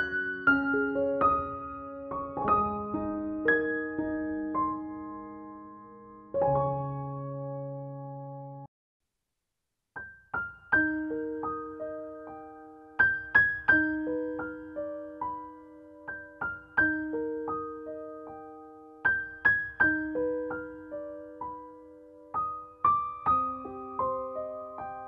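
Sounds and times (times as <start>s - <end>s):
slow piano melody: 0.0s - 8.7s, 10.0s - 25.0s.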